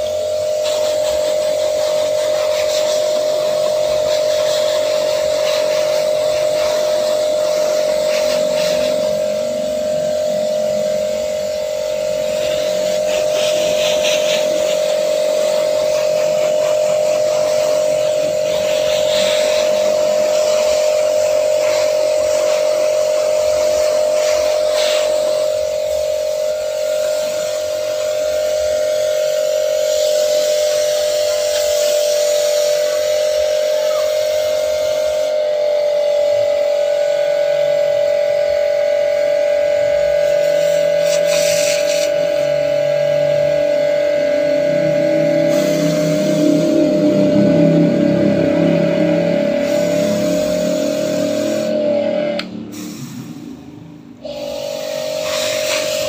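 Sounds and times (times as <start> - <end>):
water jet hissing: 0.0 - 35.5, 39.9 - 43.6, 44.8 - 51.8, 52.7 - 53.6, 54.5 - 56.0
pressure washer buzzing hum: 0.0 - 56.0.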